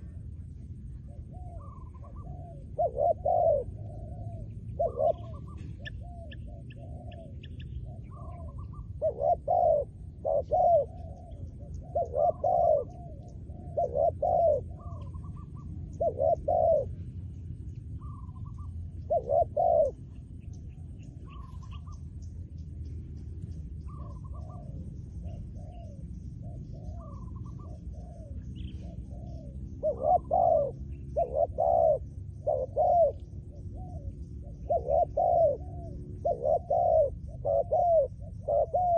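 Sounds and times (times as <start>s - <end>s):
small birds chirping: 0.0s - 38.9s
doves cooing: 0.9s - 22.0s, 23.8s - 38.9s.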